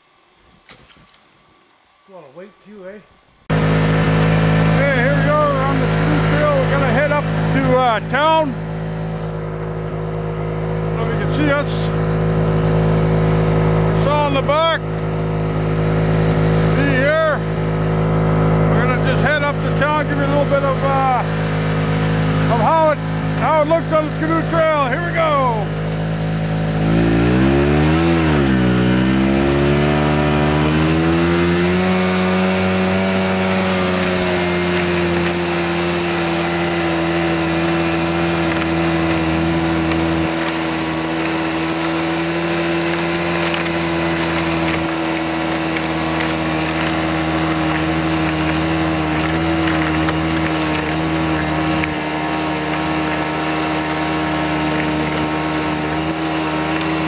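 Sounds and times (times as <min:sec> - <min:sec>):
snowmobile engine running: 0:02.1 - 0:57.0.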